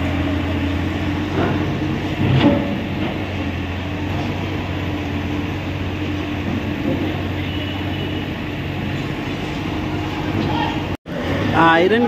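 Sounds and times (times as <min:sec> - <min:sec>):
diesel machinery engine humming: 0:00.0 - 0:12.0.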